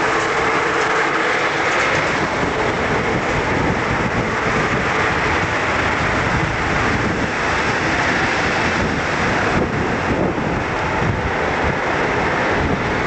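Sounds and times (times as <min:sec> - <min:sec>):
ship machinery rumble and hiss: 0:00.0 - 0:13.0
wind buffeting microphone: 0:00.0 - 0:13.0.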